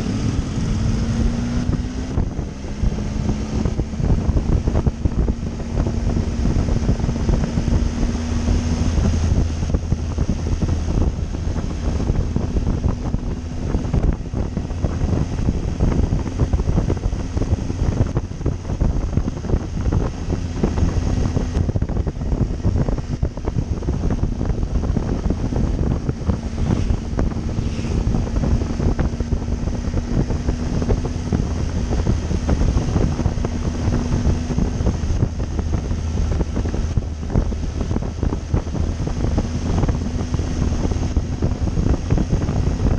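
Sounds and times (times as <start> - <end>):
motorcycle engine drone: 0.0 - 42.9
wind buffeting microphone: 0.0 - 42.9.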